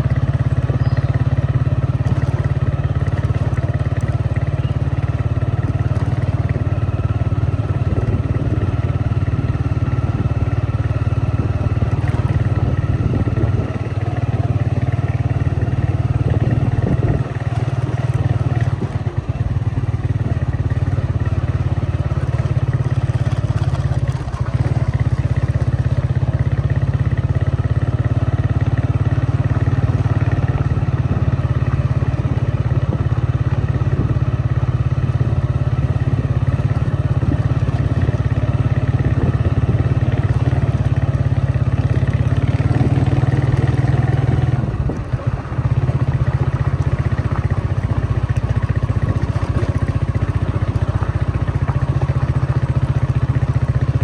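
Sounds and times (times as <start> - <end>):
road noise: 0.0 - 54.0
vehicle engine droning: 0.0 - 54.0.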